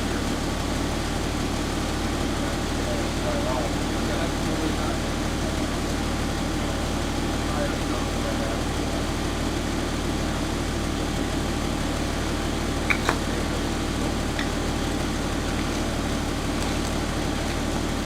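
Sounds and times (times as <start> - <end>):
engine running at low revs: 0.0 - 18.0.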